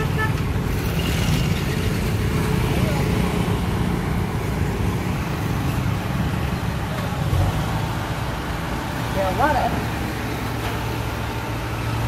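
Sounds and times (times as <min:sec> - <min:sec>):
diesel engine idling: 0:00.0 - 0:12.0
street traffic: 0:00.0 - 0:12.0.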